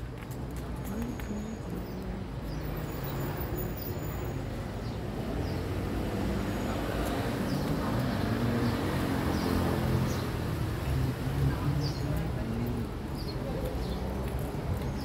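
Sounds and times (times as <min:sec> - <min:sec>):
hum of vehicle engines: 0:00.0 - 0:15.0.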